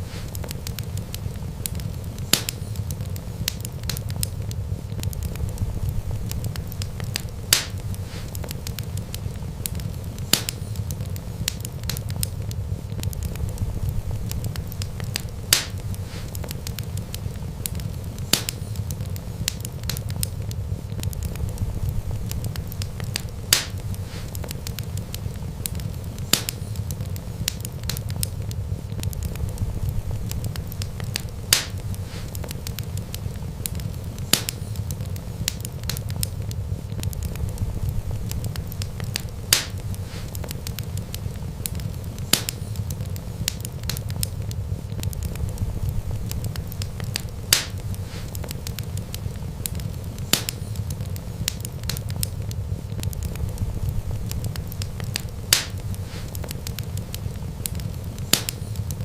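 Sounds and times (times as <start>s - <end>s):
steady low rumble: 0.0s - 59.0s
wood fire crackling: 0.0s - 59.0s.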